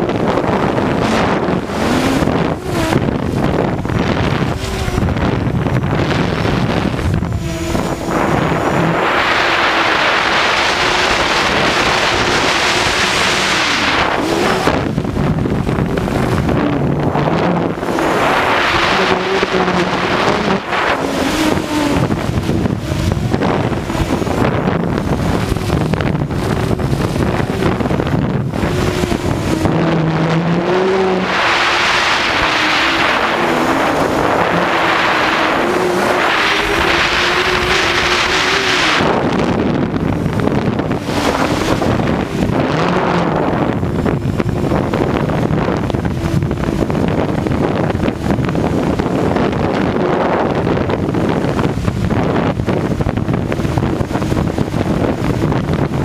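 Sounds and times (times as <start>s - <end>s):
drone propellers buzzing: 0.0s - 56.0s
wind on microphone: 0.0s - 56.0s.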